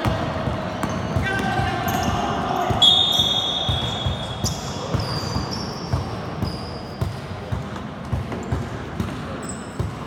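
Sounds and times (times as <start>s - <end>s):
basketballs bouncing on gym floor: 0.0s - 10.0s.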